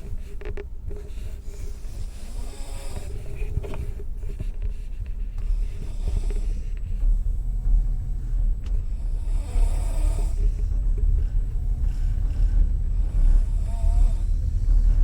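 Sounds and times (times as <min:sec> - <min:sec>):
low rumble of train carriage: 0:00.0 - 0:15.0.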